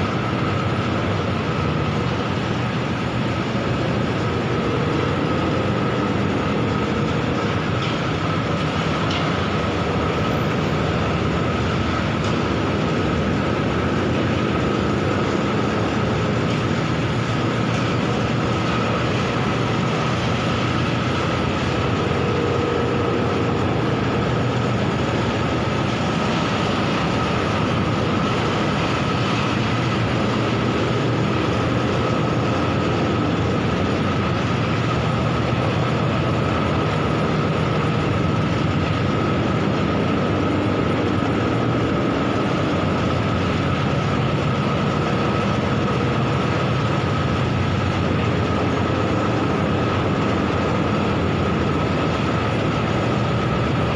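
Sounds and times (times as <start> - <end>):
high machine whine: 0.0 - 53.9
machine rumble and rattle: 0.0 - 53.9.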